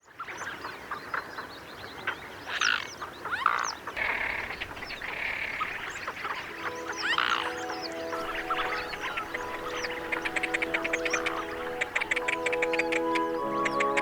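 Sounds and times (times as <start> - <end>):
birds chirping: 0.0 - 14.0
frogs croaking: 0.0 - 14.0.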